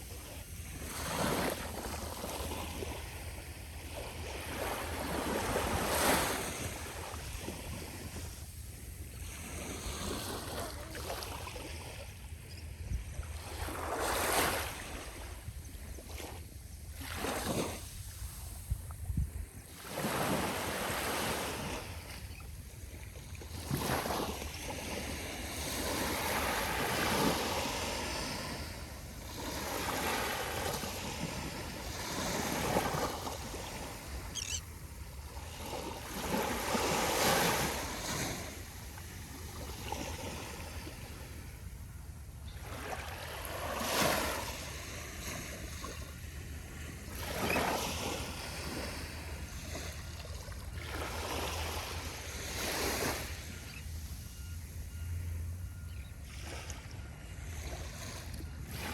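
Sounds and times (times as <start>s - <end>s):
small waves lapping on beach: 0.0s - 58.9s.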